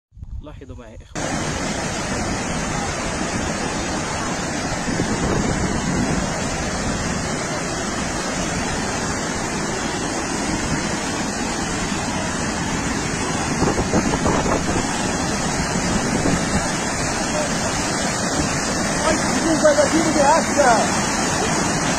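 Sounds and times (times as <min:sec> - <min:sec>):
floodwater rushing down river: 0:01.2 - 0:21.9.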